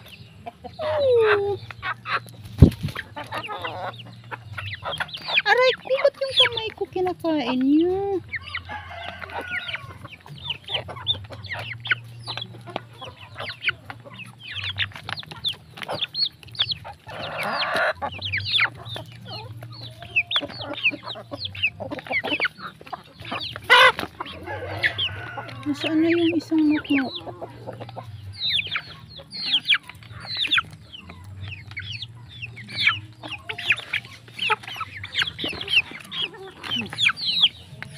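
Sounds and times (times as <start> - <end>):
chicks peeping: 0.0 - 37.9
hens clucking: 0.0 - 37.9.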